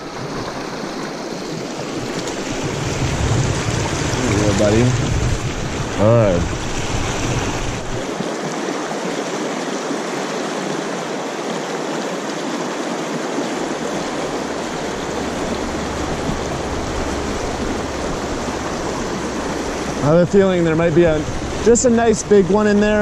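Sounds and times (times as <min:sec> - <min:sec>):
river rushing over cobbles: 0:00.0 - 0:23.0.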